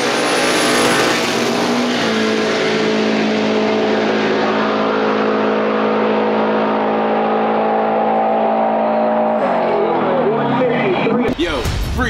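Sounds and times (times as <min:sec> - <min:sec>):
race car engines at full throttle: 0:00.0 - 0:12.0.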